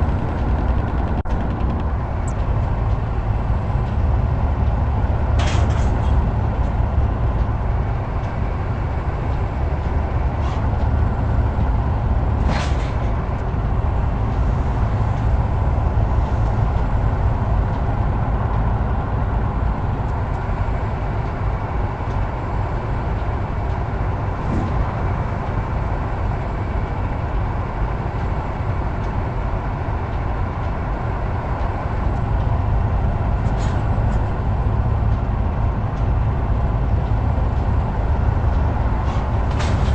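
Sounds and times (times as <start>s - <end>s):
road rumble: 0.0s - 39.9s
truck engine drone: 0.0s - 39.9s.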